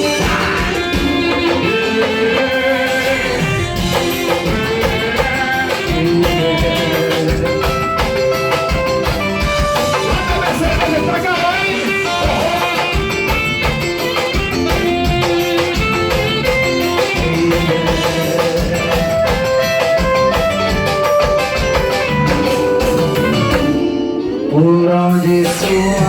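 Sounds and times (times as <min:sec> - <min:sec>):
plucked melody over busy beat: 0:00.0 - 0:26.0.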